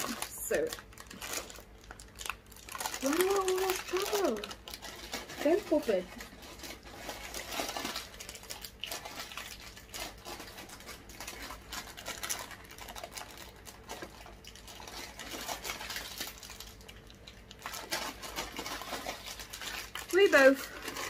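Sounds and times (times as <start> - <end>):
plastic wrapper crinkling: 0.0 - 21.0.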